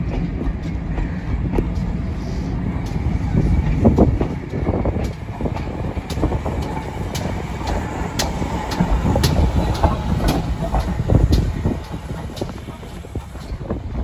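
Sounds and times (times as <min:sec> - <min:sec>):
train wheels rumbling on track: 0:00.0 - 0:14.0
wheels clicking over rail joints: 0:00.0 - 0:14.0.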